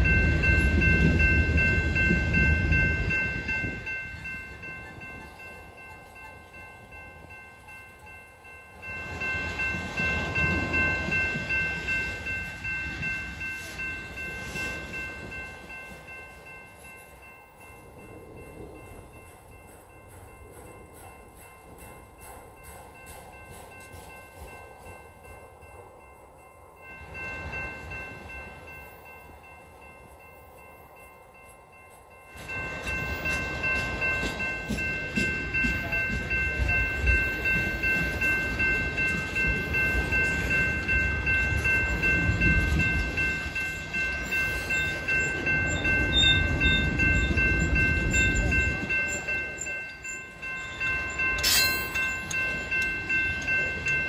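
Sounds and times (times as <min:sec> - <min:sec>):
freight cars rolling on rails: 0:00.0 - 0:54.0
high-pitched ringing: 0:00.0 - 0:54.0.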